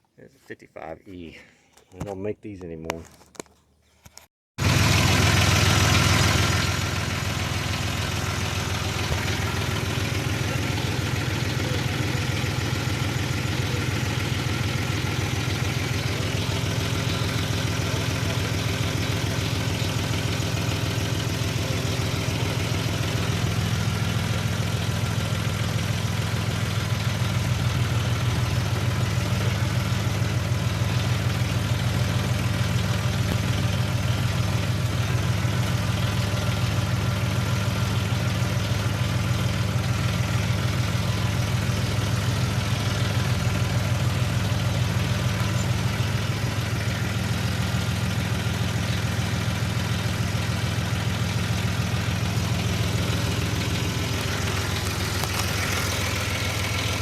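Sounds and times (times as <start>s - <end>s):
tractor diesel engine running: 4.6s - 57.0s.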